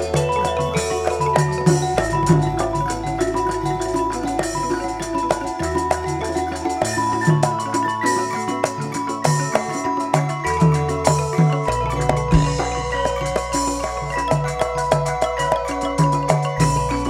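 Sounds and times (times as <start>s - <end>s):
drums: 0.0s - 17.0s
gamelan metallophones melody: 0.0s - 17.0s.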